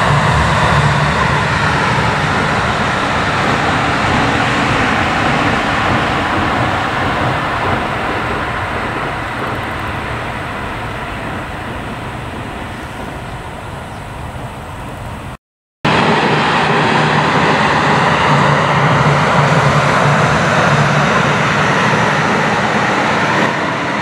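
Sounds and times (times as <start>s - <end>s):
electric train on steel bridge: 0.0s - 24.0s.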